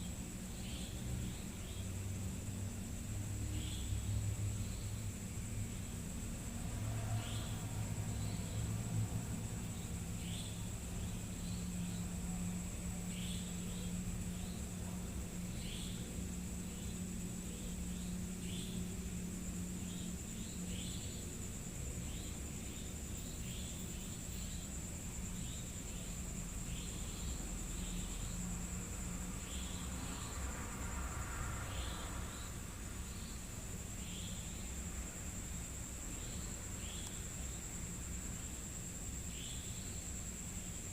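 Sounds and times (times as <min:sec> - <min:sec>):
crickets trilling: 0:00.0 - 0:40.9
insects chirping: 0:00.0 - 0:40.9.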